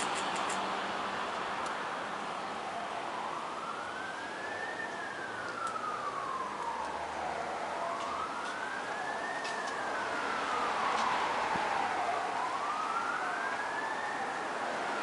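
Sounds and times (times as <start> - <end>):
emergency vehicle siren wailing: 1.6 - 15.0.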